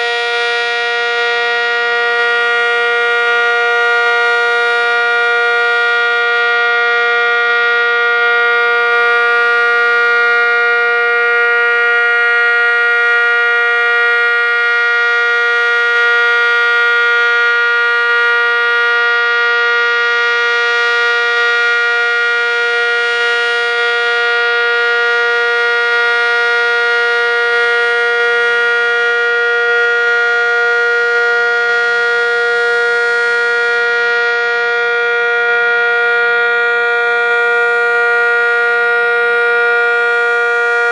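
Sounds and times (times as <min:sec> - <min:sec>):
warning siren two-note chord: 0:00.0 - 0:40.9.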